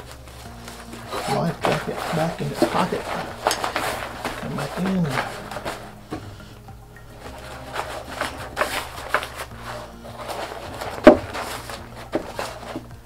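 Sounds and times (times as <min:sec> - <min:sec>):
fabric rustling and scraping: 0:00.0 - 0:13.0.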